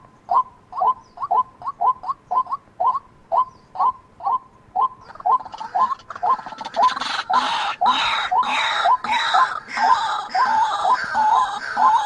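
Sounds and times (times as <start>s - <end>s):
noisy hiss: 0.0s - 12.0s
waterhen calling: 0.3s - 12.0s.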